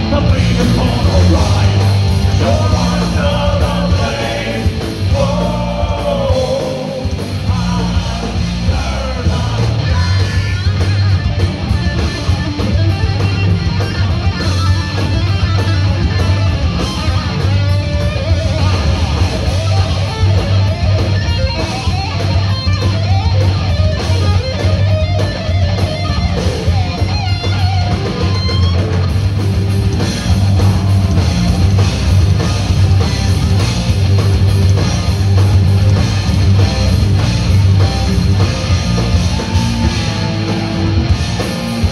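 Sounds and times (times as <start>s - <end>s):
bass guitar: 0.0s - 41.9s
distorted electric guitars: 0.0s - 41.9s
drums: 0.0s - 41.9s.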